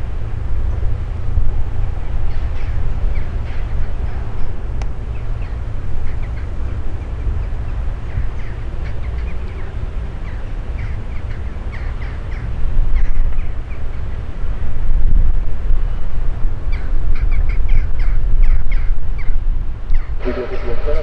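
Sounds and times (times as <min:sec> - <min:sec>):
steady low rumble: 0:00.0 - 0:21.0
birds calling: 0:01.8 - 0:14.7, 0:16.7 - 0:21.0.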